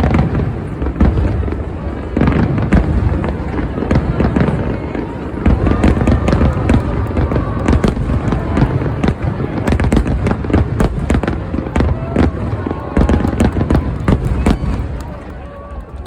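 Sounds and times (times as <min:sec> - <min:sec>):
fireworks low booms: 0:00.0 - 0:16.0
fireworks sharp cracks: 0:00.0 - 0:16.0.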